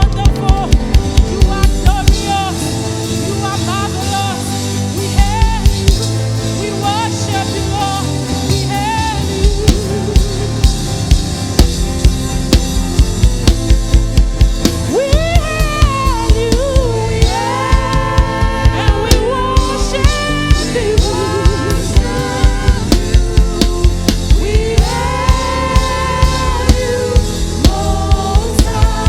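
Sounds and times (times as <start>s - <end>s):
drum kit beat: 0.0s - 29.0s
gospel band playing: 0.0s - 29.0s
melodic lead line: 0.0s - 29.0s
sustained keyboard chords: 0.0s - 29.0s.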